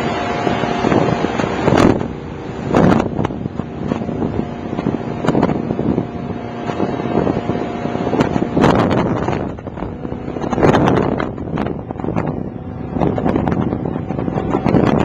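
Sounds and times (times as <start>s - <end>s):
motorboat engine drone: 0.0s - 15.0s
water rushing along hull: 0.0s - 15.0s
wind on microphone: 0.0s - 15.0s.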